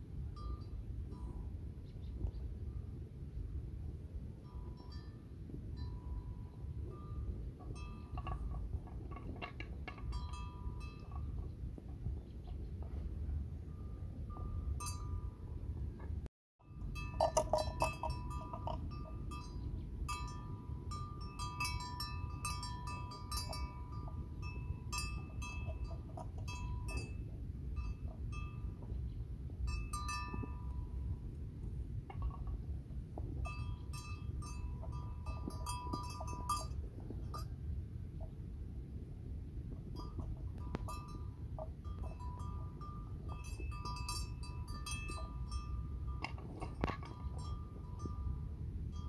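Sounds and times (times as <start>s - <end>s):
low outdoor rumble: 0.0s - 49.0s
small metal bells ringing: 0.4s - 1.7s, 4.4s - 12.0s, 13.6s - 15.7s, 16.6s - 31.4s, 32.0s - 37.6s, 39.9s - 49.0s.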